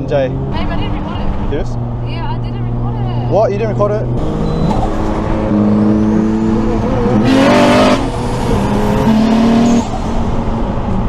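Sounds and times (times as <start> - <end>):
car engine from inside cabin: 0.2 - 11.0.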